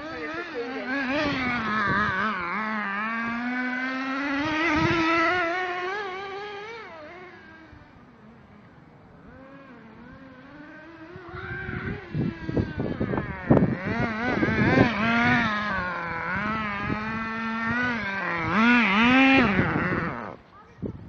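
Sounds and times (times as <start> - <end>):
small nitro engine revving: 0.0 - 20.5.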